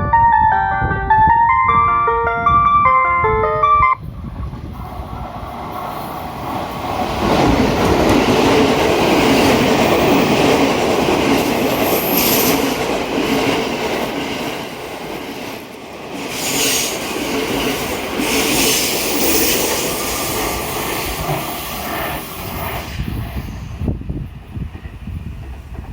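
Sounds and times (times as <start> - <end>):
train running on rails: 0.0 - 25.9.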